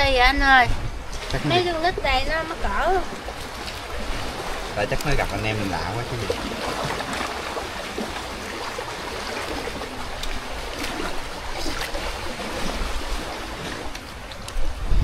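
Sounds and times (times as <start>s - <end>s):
waves washing over rocks: 0.0s - 15.0s.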